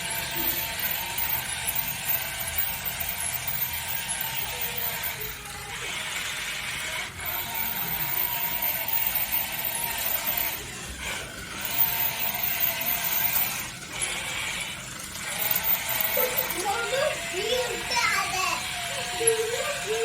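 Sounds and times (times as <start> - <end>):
toy car motors whirring: 0.0 - 20.0.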